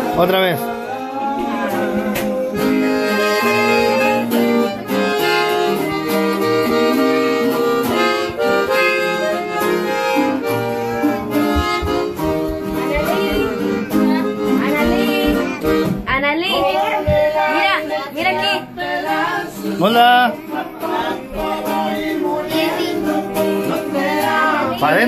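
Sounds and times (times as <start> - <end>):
rhythmic band accompaniment: 0.0 - 24.8
accordion melody: 0.0 - 25.0.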